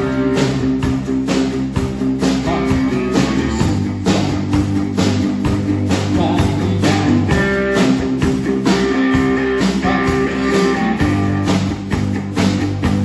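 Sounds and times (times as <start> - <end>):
drum kit steady beat: 0.0 - 13.0
electric bass: 0.0 - 13.0
electric guitar through an amp: 0.0 - 13.0.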